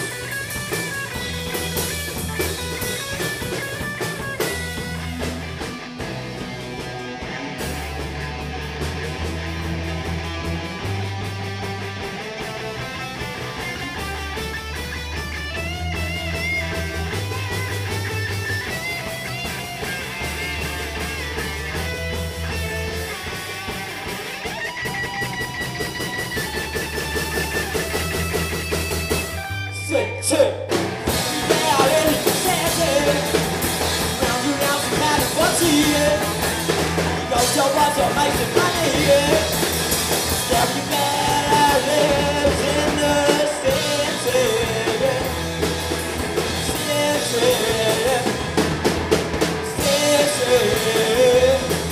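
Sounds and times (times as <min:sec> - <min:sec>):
bent electric guitar notes: 0:00.0 - 0:51.9
rock band playing live: 0:00.0 - 0:51.9.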